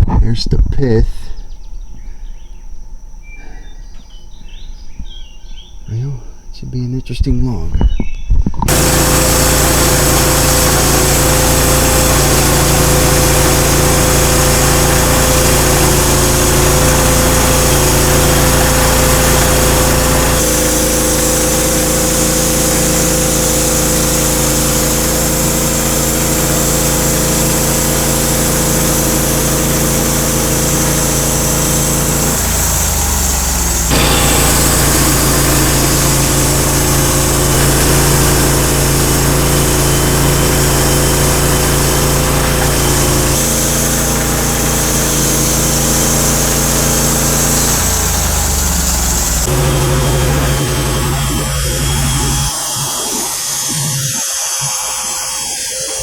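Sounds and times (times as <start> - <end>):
sawmill engine running: 8.7 - 56.0.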